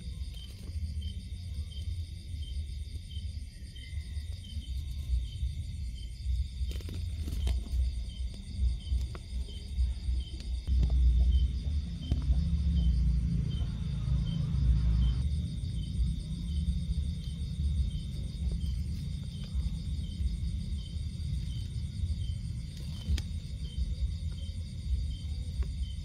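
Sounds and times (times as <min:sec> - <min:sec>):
insects trilling: 0:00.0 - 0:26.0
low rumble: 0:00.0 - 0:26.0.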